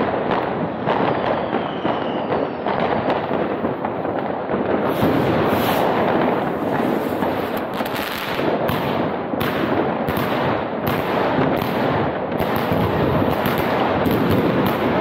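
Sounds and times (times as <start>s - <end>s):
fireworks crackling and bursting: 0.0s - 15.0s.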